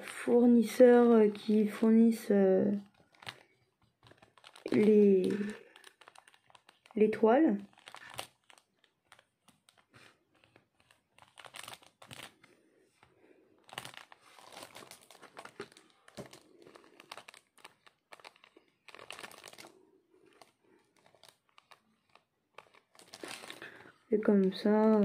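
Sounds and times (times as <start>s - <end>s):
plastic sachets crinkling: 0.0s - 25.0s.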